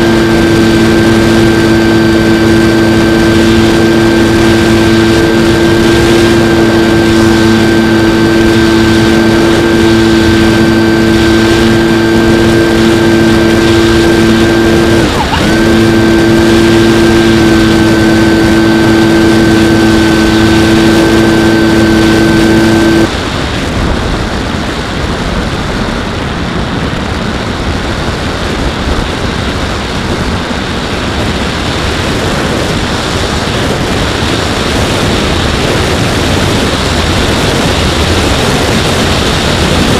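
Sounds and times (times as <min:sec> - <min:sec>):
propeller motor running: 0:00.0 - 0:39.9
rushing wind: 0:00.0 - 0:39.9.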